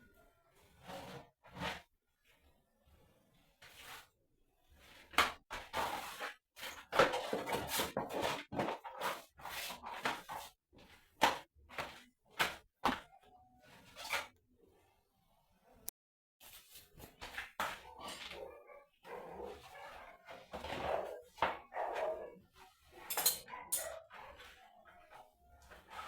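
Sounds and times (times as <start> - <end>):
rustling scrapes: 0.6 - 12.6, 16.4 - 26.0.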